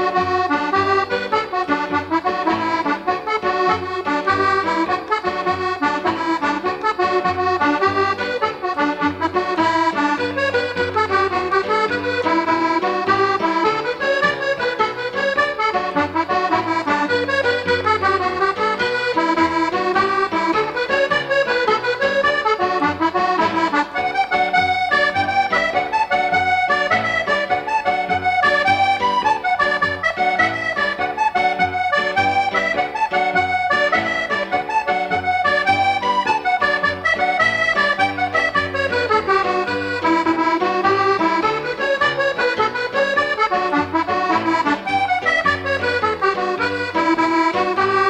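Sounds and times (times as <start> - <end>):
lively accordion tune: 0.0 - 48.0.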